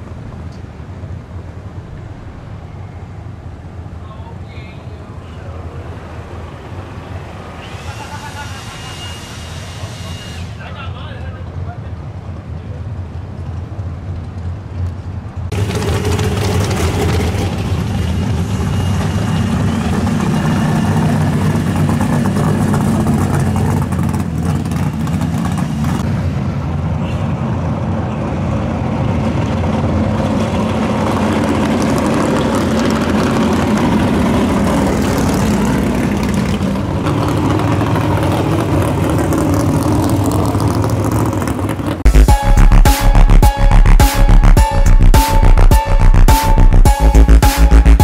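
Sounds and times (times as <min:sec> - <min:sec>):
race car engines rumbling: 0:00.0 - 0:48.0.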